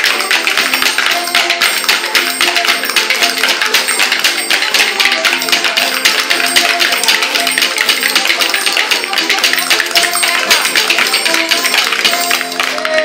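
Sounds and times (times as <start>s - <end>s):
fiddle tune: 0.0s - 13.0s
wooden spoons clacking: 0.0s - 13.0s.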